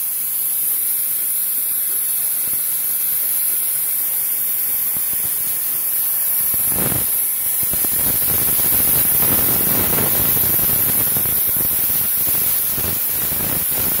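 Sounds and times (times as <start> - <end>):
plasma torch hissing: 0.0 - 14.0.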